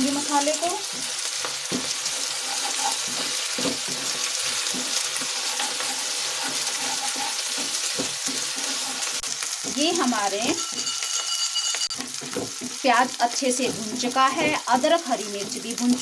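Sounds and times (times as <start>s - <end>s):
food sizzling in hot oil: 0.0s - 16.0s
spatula scraping pan: 0.1s - 14.6s.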